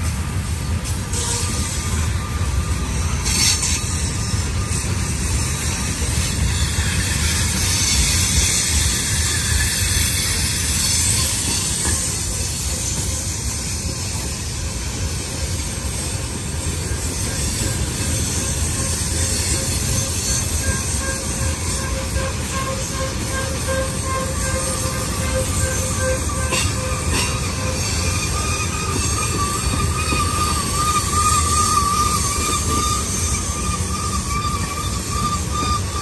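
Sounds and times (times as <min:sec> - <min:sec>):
train rumbling: 0:00.0 - 0:36.0
wheel and rail hiss: 0:00.0 - 0:36.0.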